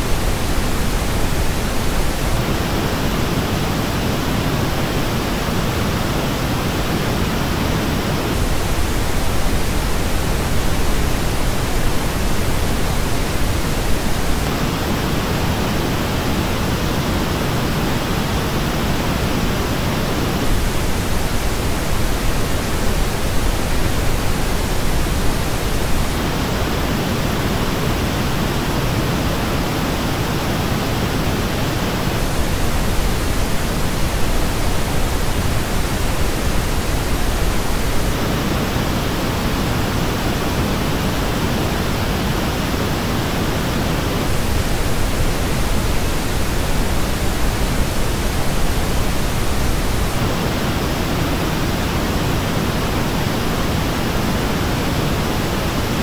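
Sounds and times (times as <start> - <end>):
pink noise test signal: 0.0 - 56.0.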